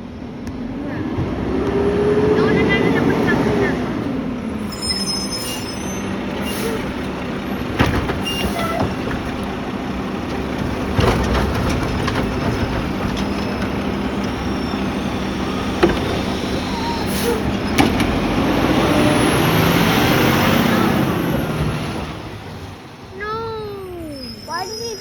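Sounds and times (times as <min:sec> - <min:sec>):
garbage truck engine running: 0:00.0 - 0:25.0.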